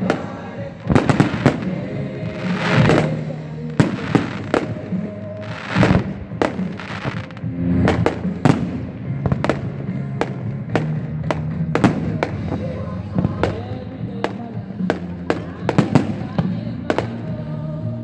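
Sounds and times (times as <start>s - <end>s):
fireworks bangs: 0.0s - 17.6s
music playing: 0.0s - 18.0s.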